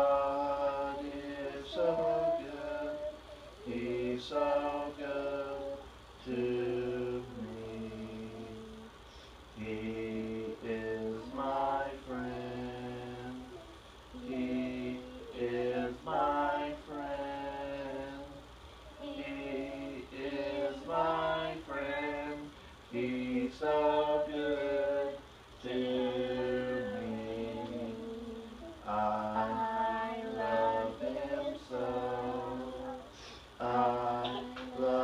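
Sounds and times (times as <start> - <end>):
family singing a hymn: 0.0 - 35.0.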